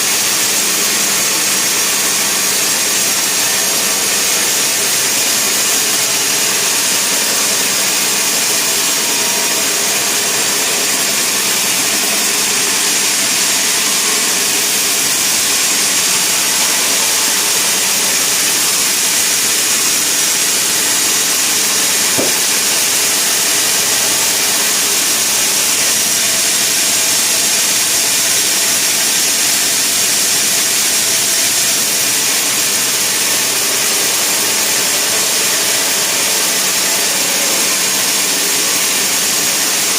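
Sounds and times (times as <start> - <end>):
sawmill machinery hissing: 0.0 - 39.9.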